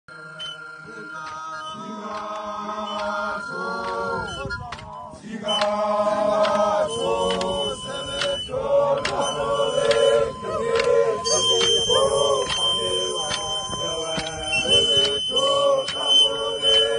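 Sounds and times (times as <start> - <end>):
sharp percussive strokes: 0.2 - 4.9, 5.5 - 16.9
group of voices chanting: 0.2 - 16.9.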